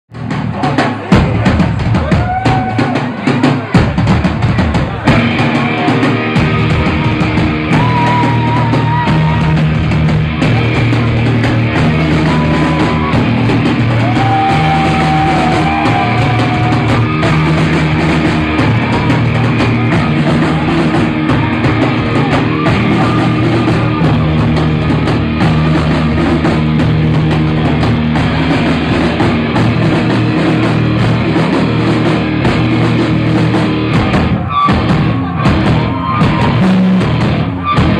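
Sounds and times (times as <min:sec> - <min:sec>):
live rock band playing: 0:00.1 - 0:37.9
bending lead guitar notes: 0:05.0 - 0:37.9.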